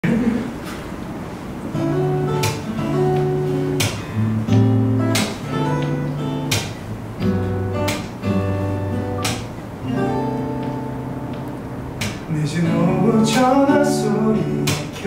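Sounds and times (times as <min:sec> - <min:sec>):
acoustic guitar picking chords: 0:00.0 - 0:15.0.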